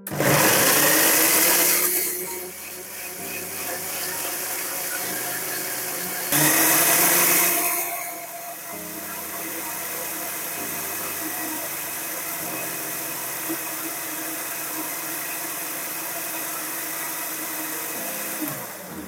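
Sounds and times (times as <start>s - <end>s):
electric mixer grinder running: 0.0s - 19.0s.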